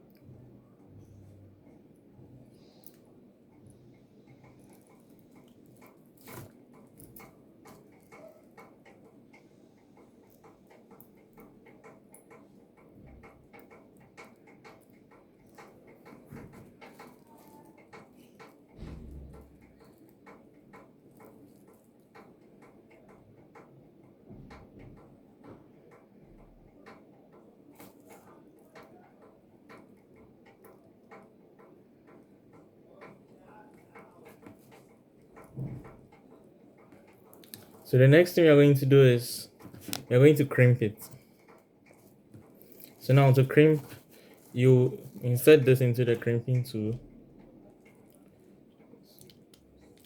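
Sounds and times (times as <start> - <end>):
small clicks of handling cable wires: 1.1 - 38.3, 39.4 - 50.0.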